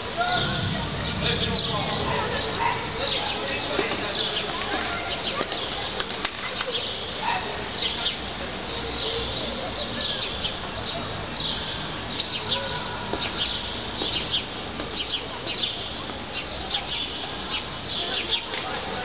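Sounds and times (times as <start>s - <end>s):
steady low background noise: 0.0s - 19.0s
small birds chirping: 0.2s - 19.0s.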